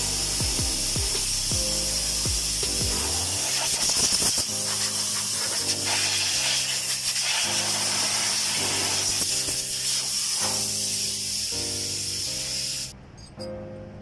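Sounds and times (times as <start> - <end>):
air blow gun hissing: 0.0 - 12.9
background music: 0.0 - 14.0.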